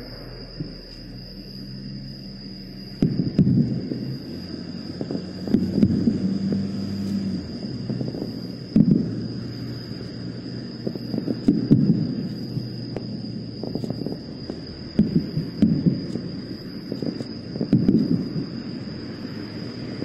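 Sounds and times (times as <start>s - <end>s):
distant fireworks booming and crackling: 0.0s - 20.0s
steady high tone: 0.0s - 20.0s.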